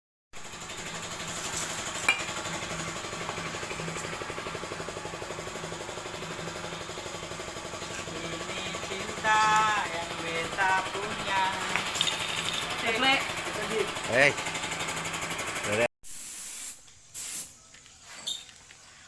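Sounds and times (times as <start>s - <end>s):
machine running rhythmically: 0.4s - 15.9s.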